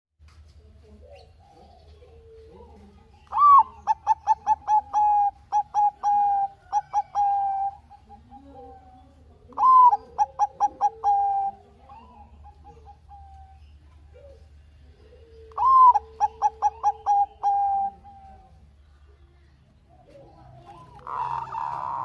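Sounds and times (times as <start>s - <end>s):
dove cooing: 0.8s - 18.8s, 19.8s - 22.0s.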